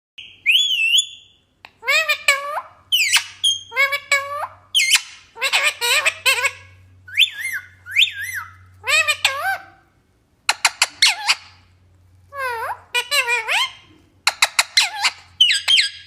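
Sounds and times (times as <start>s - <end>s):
parrot squawking and chattering: 0.2s - 16.0s.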